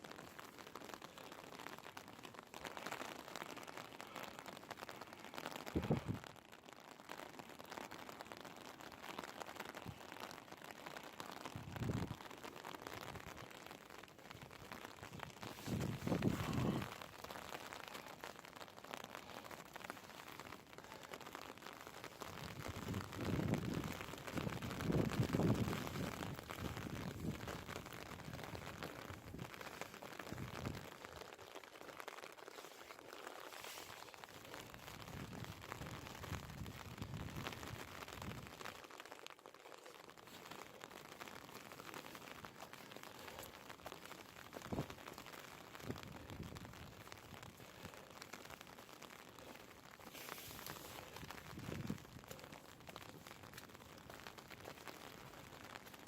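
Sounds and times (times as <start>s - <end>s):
light rain pattering: 0.0s - 56.0s.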